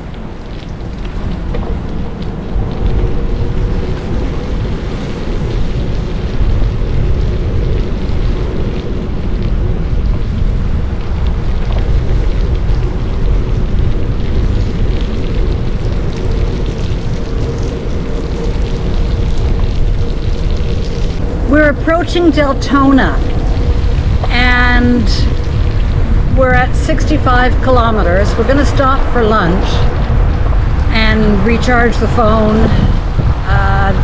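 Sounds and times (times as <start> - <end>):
faint steady hum: 0.0 - 34.0
wind buffeting microphone: 0.0 - 34.0.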